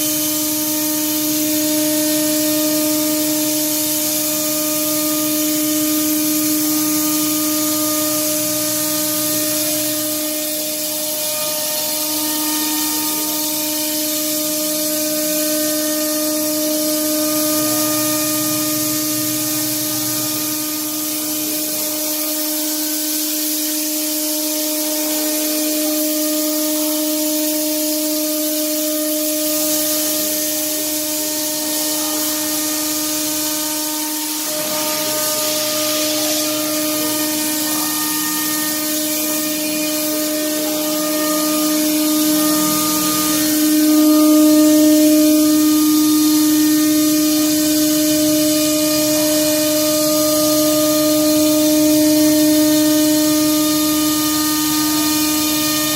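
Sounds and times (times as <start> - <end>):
hiss of wood cutting: 0.0 - 55.9
router spindle whine: 0.0 - 55.9.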